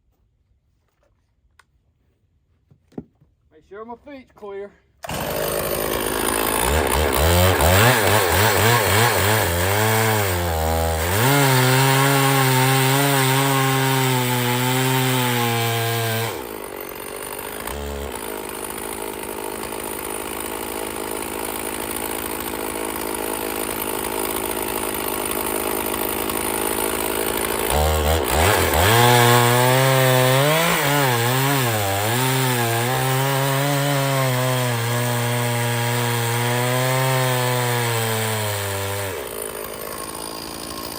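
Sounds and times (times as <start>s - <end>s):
chainsaw cutting log: 5.0s - 40.9s.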